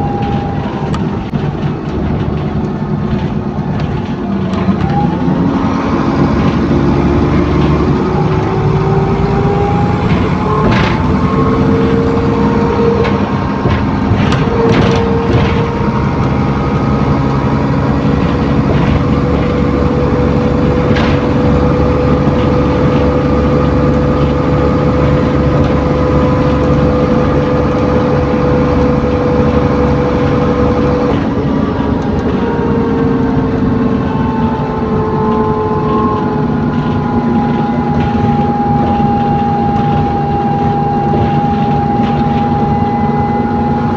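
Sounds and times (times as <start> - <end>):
bus drivetrain whining: 0.0 - 43.9.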